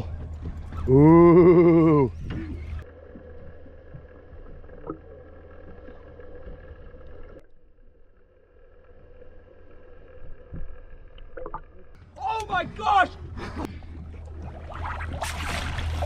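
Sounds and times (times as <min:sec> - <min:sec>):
boat engine droning underwater: 0:00.0 - 0:12.1, 0:13.2 - 0:16.0.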